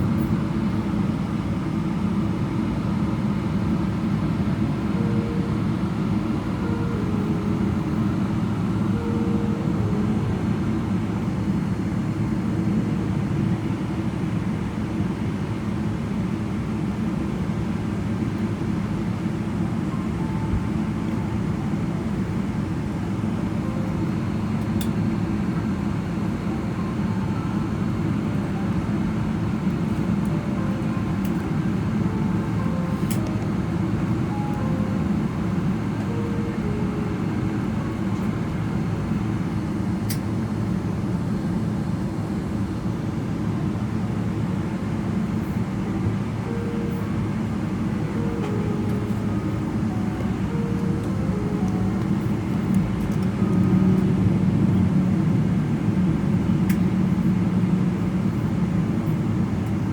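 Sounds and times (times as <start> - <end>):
jet engines idling in cabin: 0.0 - 59.9.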